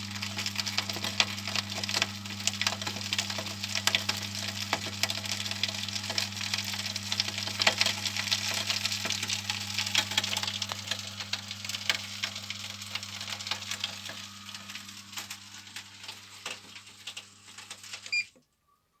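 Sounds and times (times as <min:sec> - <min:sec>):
coal crackling and clicking: 0:00.0 - 0:18.2
motor hum: 0:00.0 - 0:18.3.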